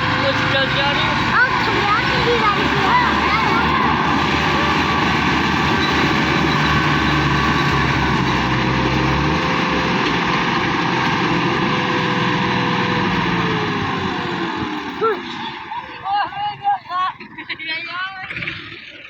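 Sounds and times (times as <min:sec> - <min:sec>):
tractor diesel engine running: 0:00.0 - 0:17.7.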